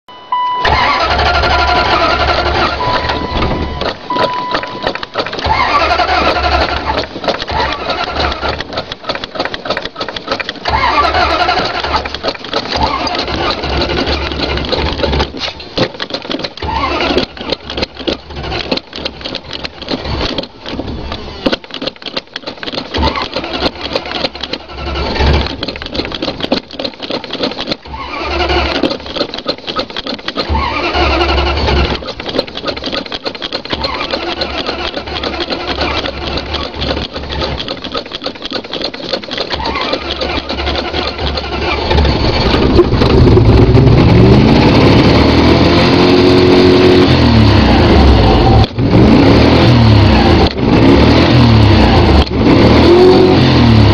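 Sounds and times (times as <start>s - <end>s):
engine cranking with starter: 0.5s - 53.9s.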